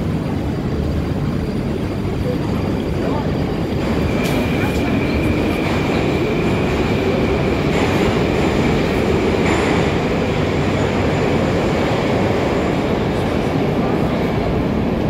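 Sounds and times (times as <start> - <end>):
metro train rumbling with whine: 0.0 - 15.0.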